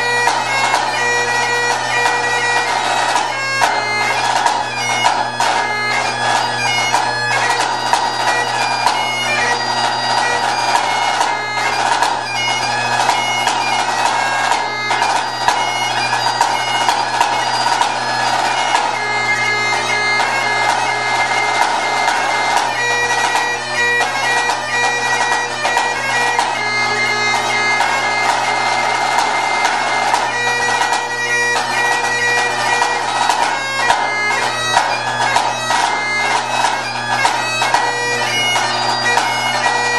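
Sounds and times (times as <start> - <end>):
bagpipe playing a tune: 0.0 - 39.9.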